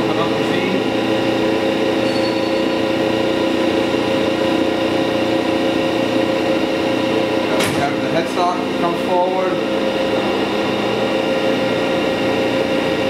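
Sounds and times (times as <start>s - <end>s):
grinding machine humming: 0.0s - 13.0s.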